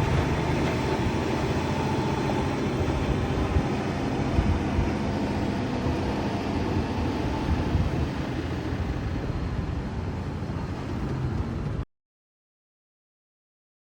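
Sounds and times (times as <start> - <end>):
truck engine rumbling: 0.0 - 11.9.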